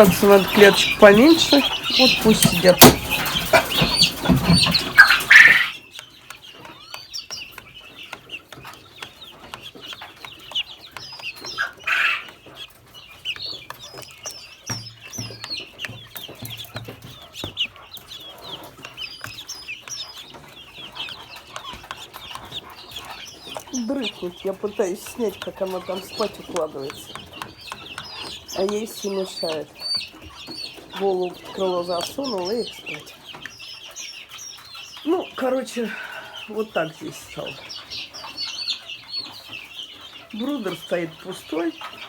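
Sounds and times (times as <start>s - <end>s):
chicks peeping: 0.0s - 42.0s
hen clucking: 0.0s - 42.0s.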